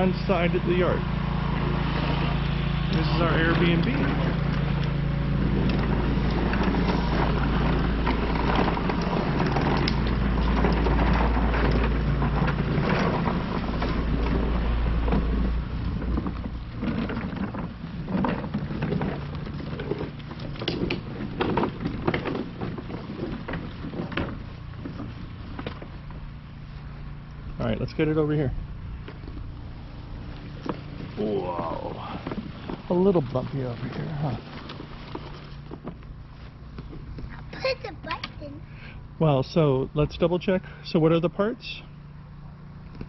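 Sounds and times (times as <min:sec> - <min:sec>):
mower wheels rumbling on paving: 0:00.0 - 0:43.0.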